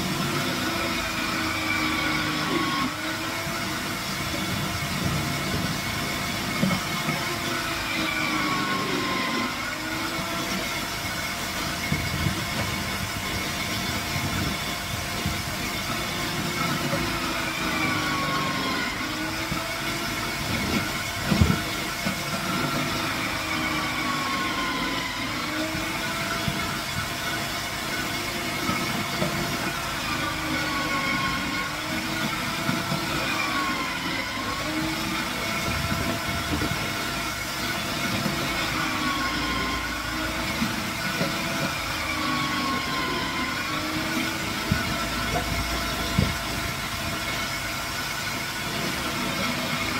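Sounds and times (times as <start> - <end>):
food processor motor running: 0.0 - 49.9.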